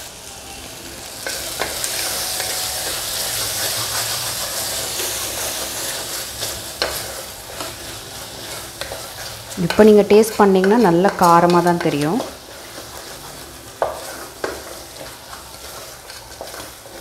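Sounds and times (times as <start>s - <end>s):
food sizzling in a pot: 0.0s - 17.0s
wooden spatula scraping a pot: 3.1s - 17.0s.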